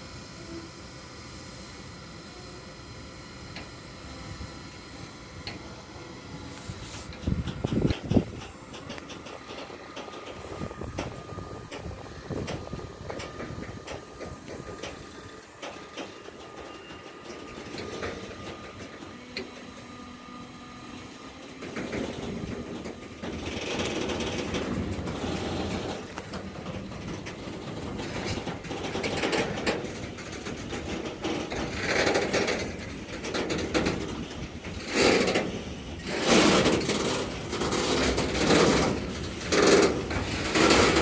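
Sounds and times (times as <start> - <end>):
wheels clanking over rail joints: 7.1 - 41.0.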